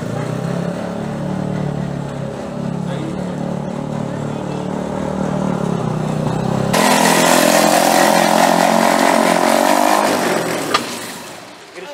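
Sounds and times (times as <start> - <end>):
go-kart engine running: 0.0 - 11.9.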